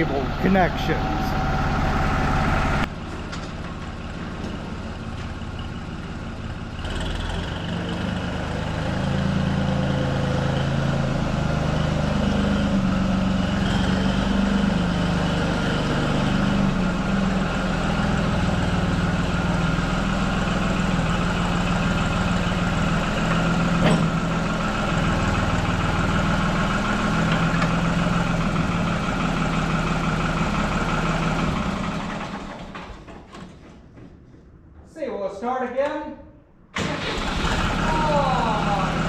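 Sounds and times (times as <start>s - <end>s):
tractor engine idling: 0.0s - 33.7s, 36.8s - 39.0s.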